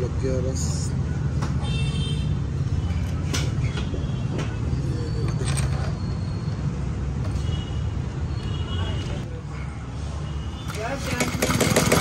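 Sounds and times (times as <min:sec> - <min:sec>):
low rumble of vehicle noise: 0:00.0 - 0:12.0.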